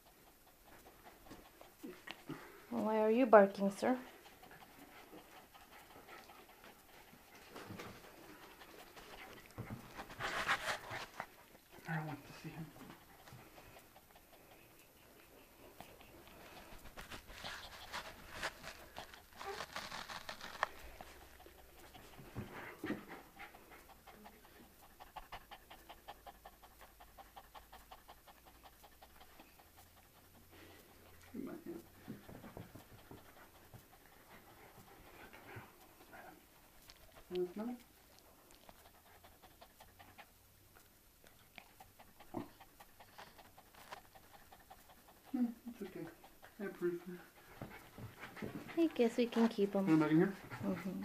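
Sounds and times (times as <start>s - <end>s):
dogs panting rapidly: 0.0s - 51.0s.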